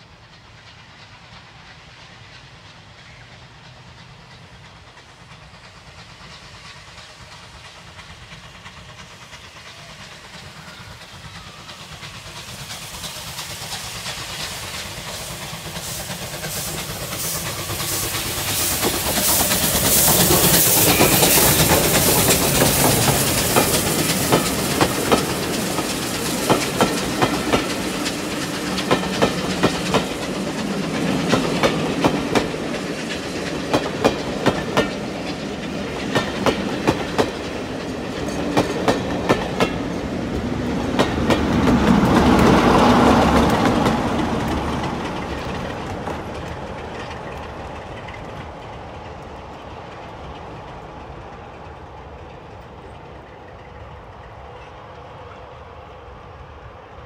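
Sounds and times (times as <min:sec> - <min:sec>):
train wheels clicking over rail joints: 0:00.0 - 0:55.4
diesel locomotive engine: 0:00.0 - 0:57.0
steam locomotive hissing: 0:00.0 - 0:57.0.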